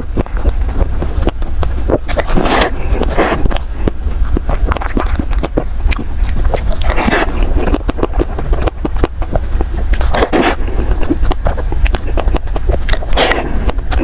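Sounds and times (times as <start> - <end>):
wet chewing mouth clicks: 0.0 - 14.0.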